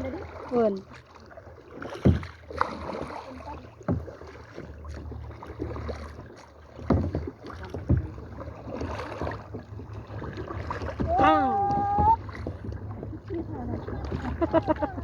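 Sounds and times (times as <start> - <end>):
water swishing against kayak: 0.0 - 15.0.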